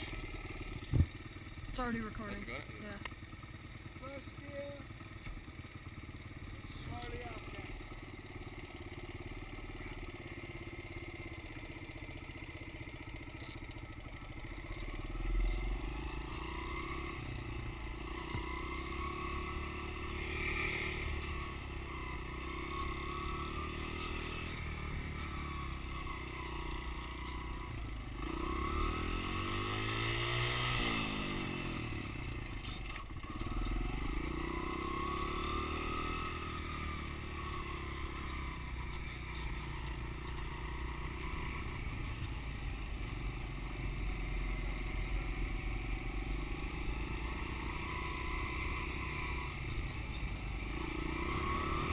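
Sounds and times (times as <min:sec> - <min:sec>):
dirt bike engine revving: 0:05.8 - 0:51.9.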